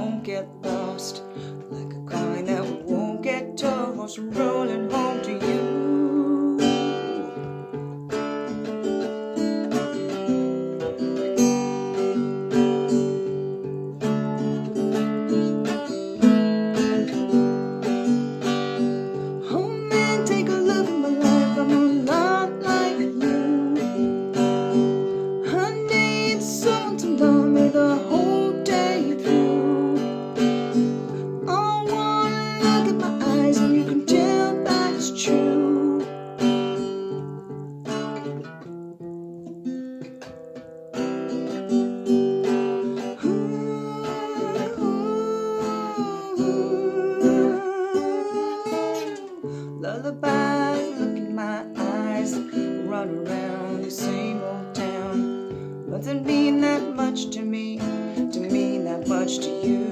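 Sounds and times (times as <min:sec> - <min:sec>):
acoustic guitar picking and strumming: 0:00.0 - 0:59.9.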